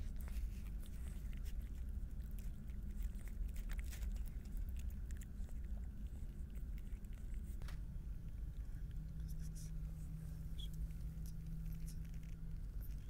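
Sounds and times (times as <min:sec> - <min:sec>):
cat crunching dry kibble: 0:00.0 - 0:09.7, 0:10.7 - 0:13.0
steady low rumble: 0:00.0 - 0:13.0.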